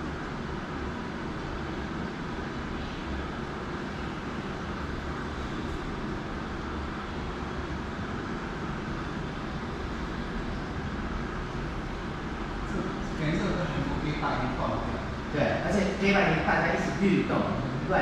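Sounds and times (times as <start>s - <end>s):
steady low rumbling: 0.0s - 18.0s.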